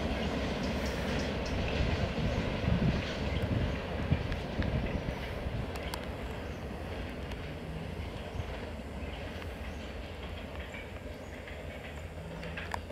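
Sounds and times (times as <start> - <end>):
train wheels rumbling: 0.0 - 12.9.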